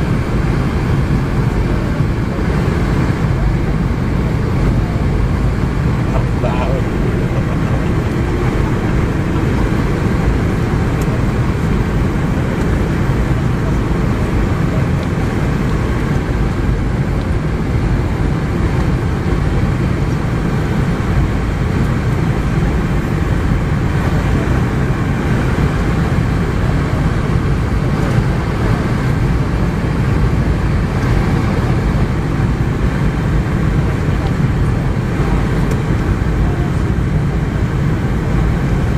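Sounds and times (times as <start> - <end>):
airliner cabin roar: 0.0 - 38.9.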